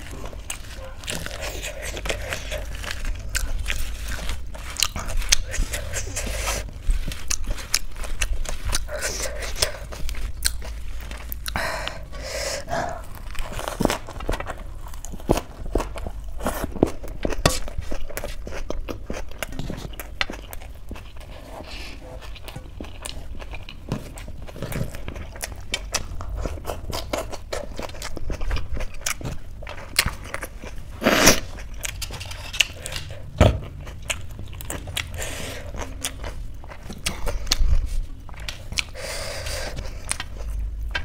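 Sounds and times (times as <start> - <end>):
wet chewing: 0.0 - 41.0.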